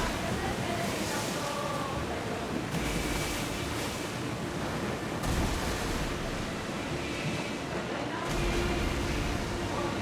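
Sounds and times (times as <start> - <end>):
sea waves washing: 0.0 - 10.0
wind: 0.0 - 10.0.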